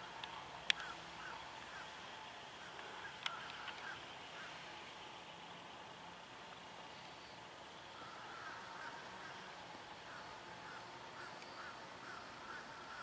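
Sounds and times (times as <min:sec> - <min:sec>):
bird calling faintly: 0:00.0 - 0:13.0
steady background hiss: 0:00.0 - 0:13.0.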